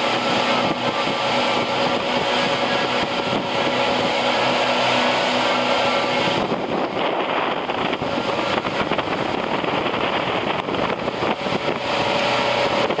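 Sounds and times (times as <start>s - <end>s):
boat engine drone: 0.0s - 13.0s
rush of wind and water: 0.0s - 13.0s
wind buffeting microphone: 0.0s - 13.0s.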